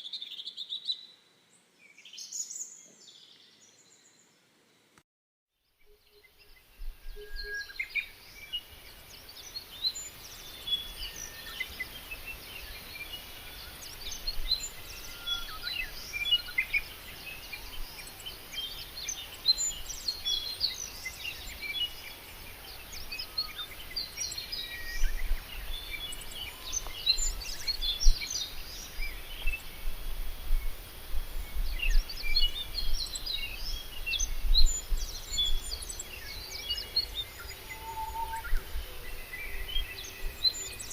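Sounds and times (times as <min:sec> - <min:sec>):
small birds chirping and trilling: 0:05.8 - 0:40.9.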